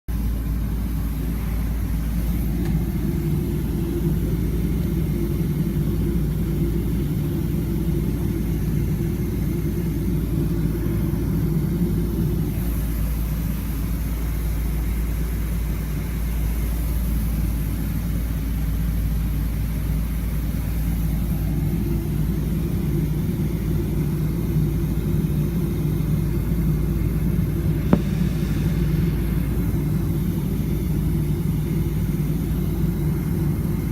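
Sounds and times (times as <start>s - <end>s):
jet engines rumbling: 0.1s - 33.9s.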